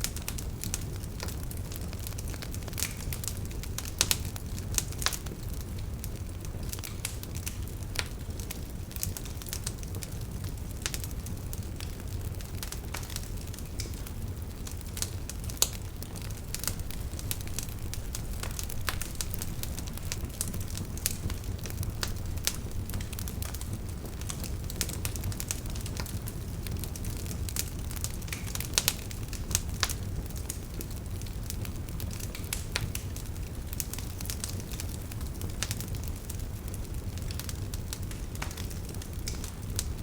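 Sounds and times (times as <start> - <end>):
wood fire crackling and snapping: 0.0 - 40.0.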